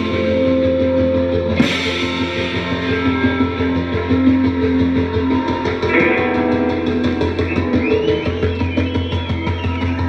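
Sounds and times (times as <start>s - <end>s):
band music with guitar: 0.0s - 10.0s.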